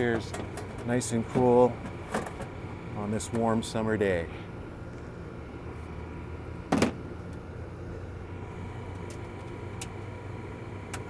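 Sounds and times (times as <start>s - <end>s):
hvac machinery humming: 0.0s - 11.0s.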